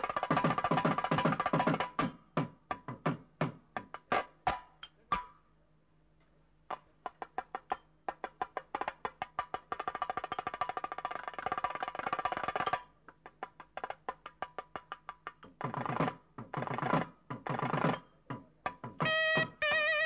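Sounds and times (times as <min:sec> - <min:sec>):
percussion taps and drum roll: 0:00.0 - 0:05.4, 0:06.7 - 0:19.8.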